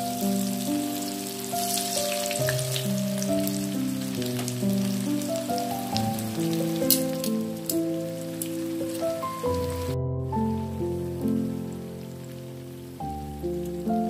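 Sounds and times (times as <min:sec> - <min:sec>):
background music: 0:00.0 - 0:14.0
oil sizzling and crackling: 0:00.0 - 0:14.0.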